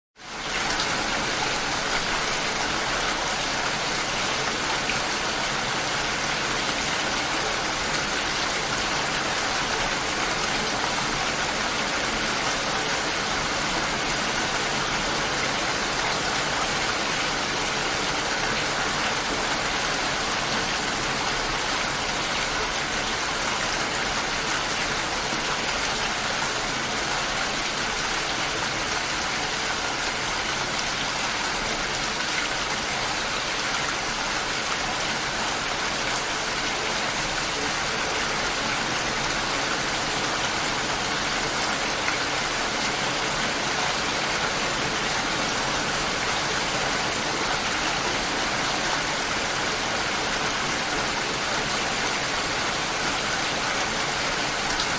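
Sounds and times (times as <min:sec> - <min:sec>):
light rain falling: 0:00.2 - 0:54.9.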